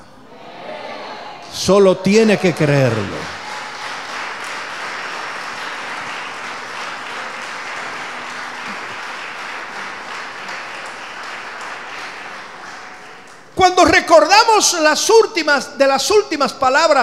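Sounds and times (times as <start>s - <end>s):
congregation applauding: 1.4s - 17.0s.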